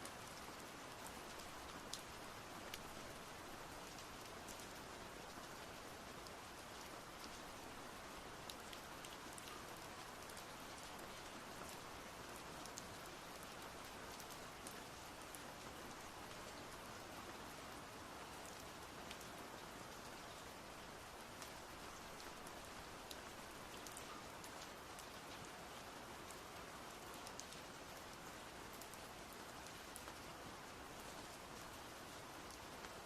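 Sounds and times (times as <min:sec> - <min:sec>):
faint steady hiss with ticks: 0:00.0 - 0:33.0.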